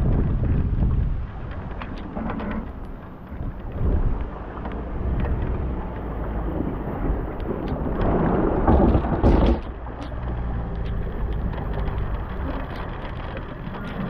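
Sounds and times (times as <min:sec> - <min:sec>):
rain falling: 0:00.0 - 0:14.0
steady low rumble: 0:00.0 - 0:14.0.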